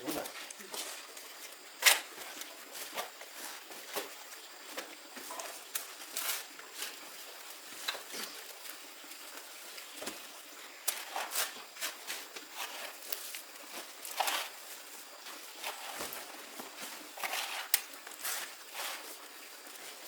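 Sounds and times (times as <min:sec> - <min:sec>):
hand tools scraping soil and brick: 0:00.1 - 0:20.0.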